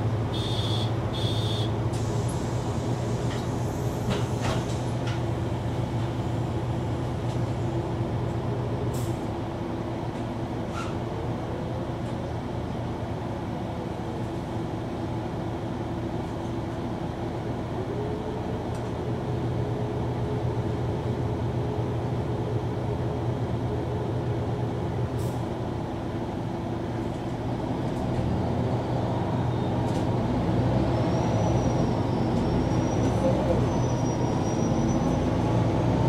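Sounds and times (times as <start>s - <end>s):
bus engine running: 0.0s - 36.0s.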